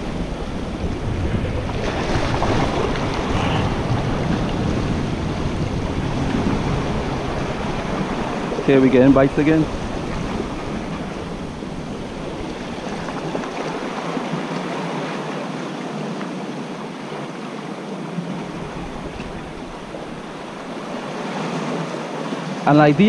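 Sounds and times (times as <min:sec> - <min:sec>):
waves splashing against rocks: 0:00.0 - 0:23.0.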